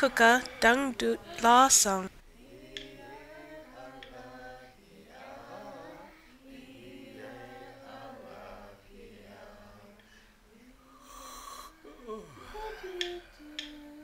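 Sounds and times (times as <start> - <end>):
quiet chant-like singing: 0.0 - 14.0.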